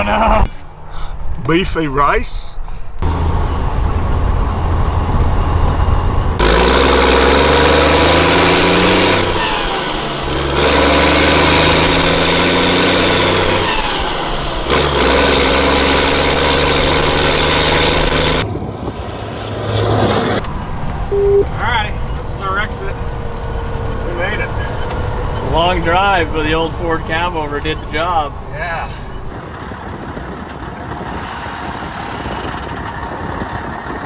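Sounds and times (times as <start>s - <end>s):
diesel truck engine accelerating: 3.0s - 34.0s.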